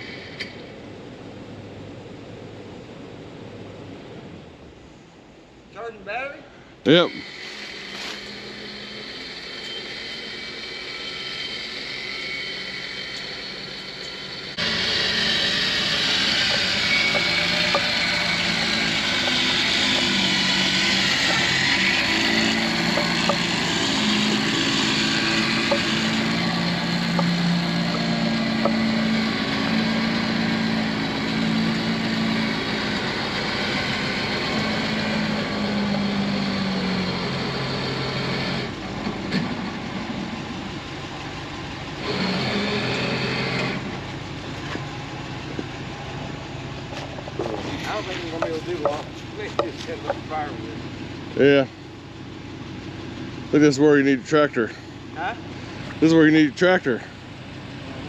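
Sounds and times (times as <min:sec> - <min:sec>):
electric winch hauling under strain: 0:00.0 - 0:04.5, 0:06.9 - 0:58.0
truck engine idling: 0:06.6 - 0:58.0.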